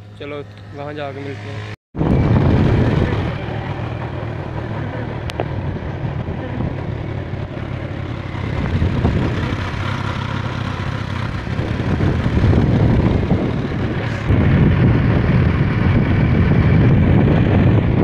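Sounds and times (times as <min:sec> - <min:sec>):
motorcycle engine rumbling: 0:00.0 - 0:18.0
wind rushing over microphone: 0:02.0 - 0:18.0.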